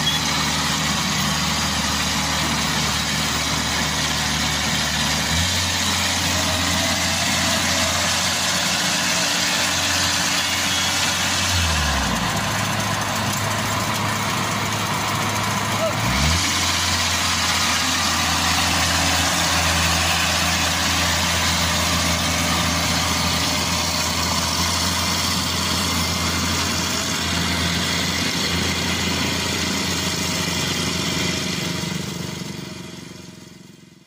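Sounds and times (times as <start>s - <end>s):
combine harvester engine: 0.0s - 34.0s.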